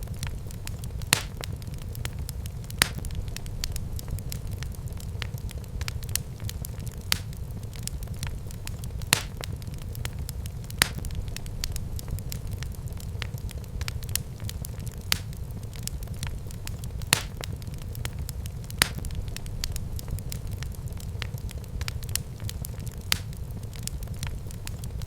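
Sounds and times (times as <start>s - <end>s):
fire crackles and pops: 0.0s - 25.0s
low rumble of flames: 0.0s - 25.0s.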